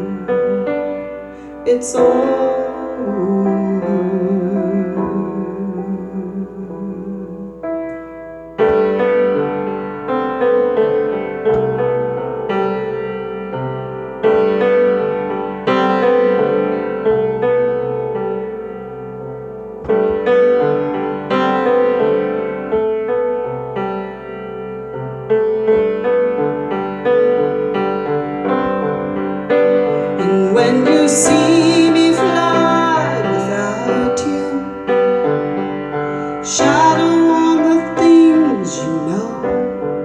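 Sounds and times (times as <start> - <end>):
piano chords: 0.0 - 40.0.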